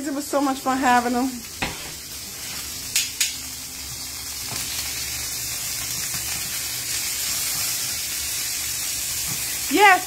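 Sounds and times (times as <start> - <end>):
steaks sizzling in frying pan: 0.0 - 10.0.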